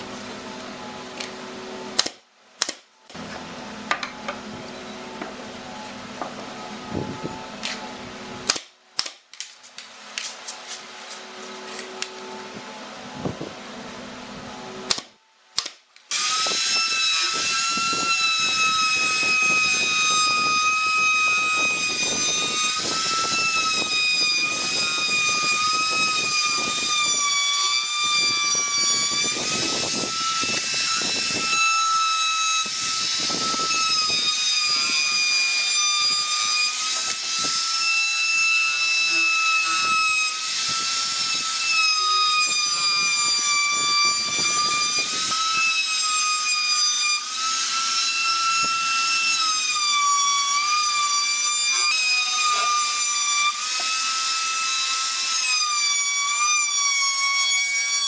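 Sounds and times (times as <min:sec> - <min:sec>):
trim router whining: 0:03.1 - 0:08.5, 0:16.1 - 0:58.0.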